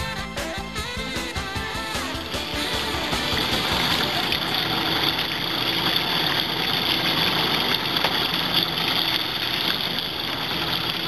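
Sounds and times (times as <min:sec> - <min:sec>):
boat engine running: 0:00.7 - 0:11.0.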